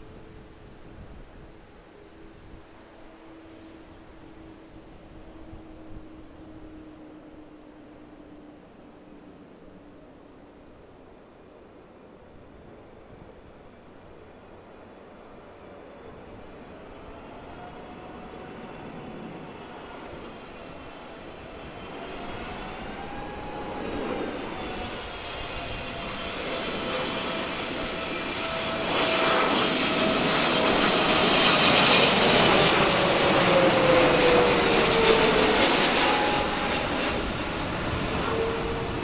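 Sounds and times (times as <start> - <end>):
jet engines roaring: 0.0 - 10.6, 14.4 - 39.0.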